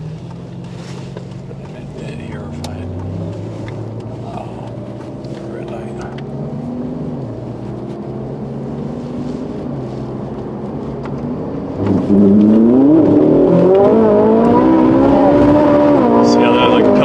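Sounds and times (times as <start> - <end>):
sports car engine revving: 0.0 - 17.0
tyres peeling out: 0.0 - 17.0.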